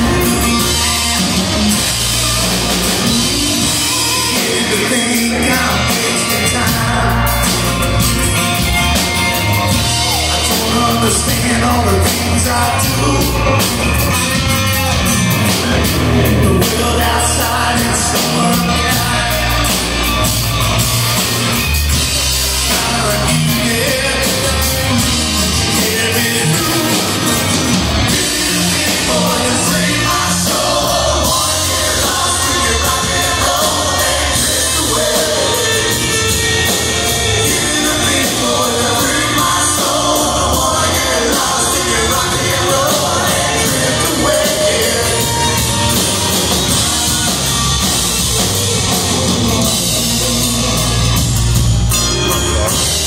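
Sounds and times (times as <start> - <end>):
distorted electric guitar: 0.0 - 53.0
hard rock band playing: 0.0 - 53.0.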